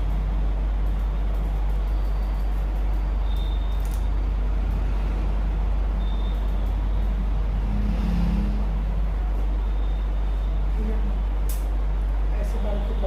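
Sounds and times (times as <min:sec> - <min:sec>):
constant background noise: 0:00.0 - 0:13.0
steady low hum: 0:00.0 - 0:13.0.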